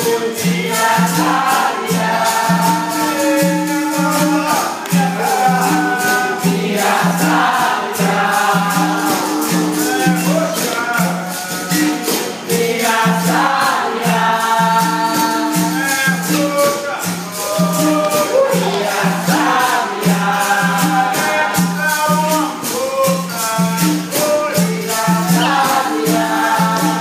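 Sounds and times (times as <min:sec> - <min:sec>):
atabaque drum: 0:00.0 - 0:27.0
caxixi shakers: 0:00.0 - 0:27.0
pandeiro jingles: 0:00.0 - 0:27.0
voices singing in chorus: 0:00.0 - 0:27.0.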